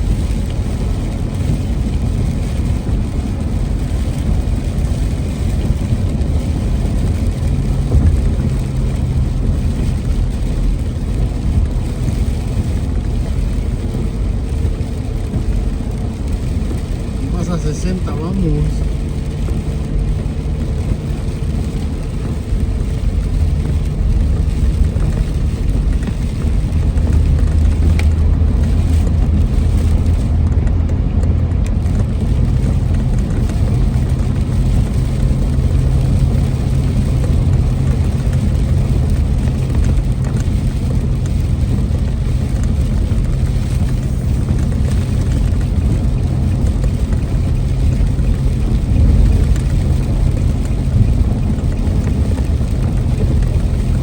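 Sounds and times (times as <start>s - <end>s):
car engine and road drone: 0.0s - 54.0s.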